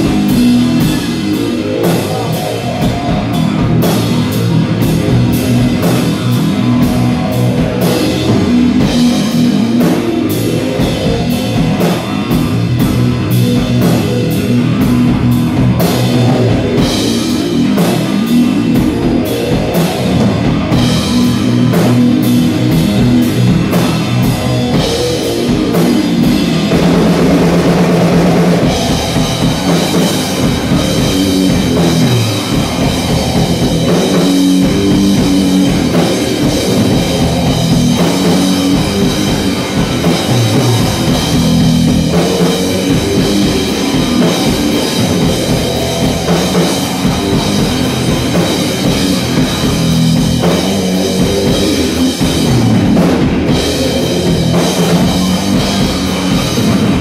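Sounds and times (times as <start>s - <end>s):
distorted electric guitar: 0.0s - 57.0s
drum kit with cymbals and snare: 0.0s - 57.0s.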